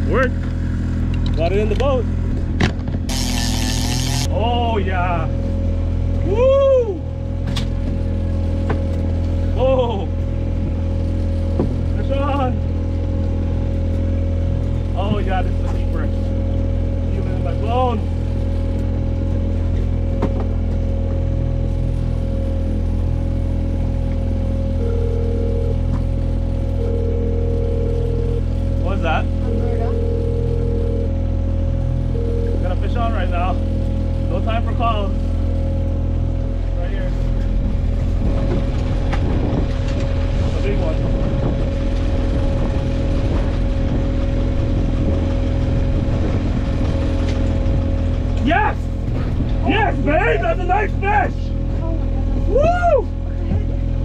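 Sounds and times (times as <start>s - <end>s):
outboard motor running: 0.0s - 54.0s
second steady hum: 0.0s - 54.0s.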